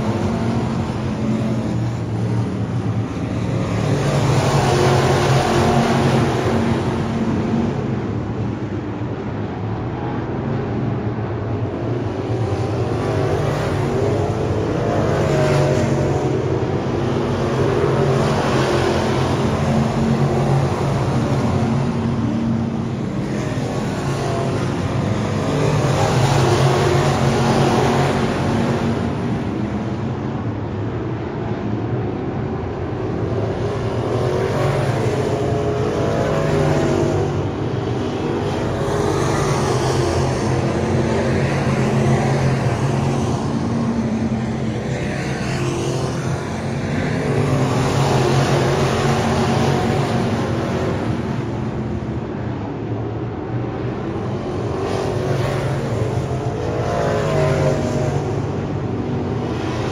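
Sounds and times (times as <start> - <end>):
race car engines: 0.0 - 59.9.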